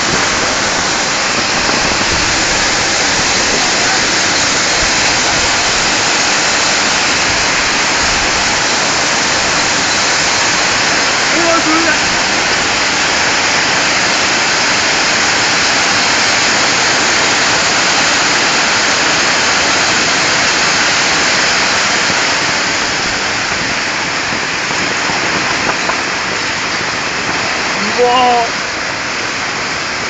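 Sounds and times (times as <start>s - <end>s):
torrential rain pouring: 0.0s - 30.0s.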